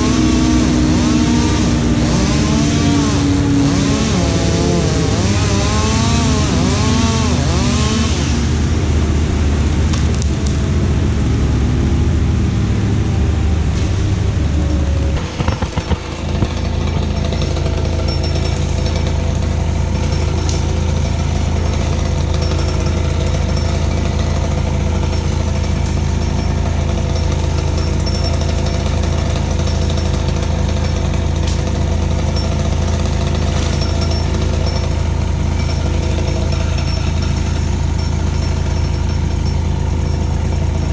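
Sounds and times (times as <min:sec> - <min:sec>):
power equipment engine running: 0:00.0 - 0:40.9.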